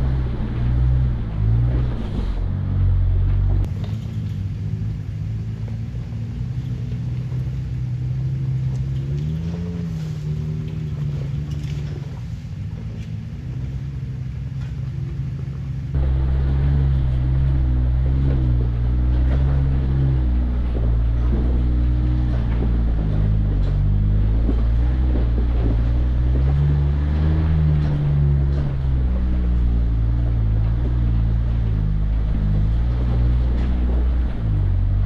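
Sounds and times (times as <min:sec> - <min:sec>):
off-road vehicle engine under load: 0:00.0 - 0:35.0.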